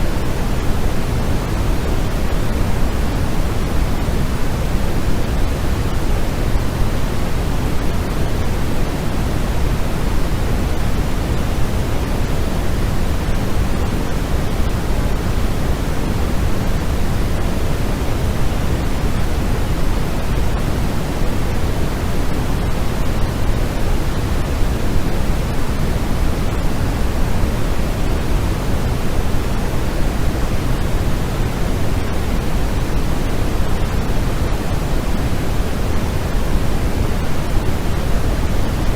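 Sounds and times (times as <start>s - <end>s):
deep white noise hiss: 0.0s - 38.9s.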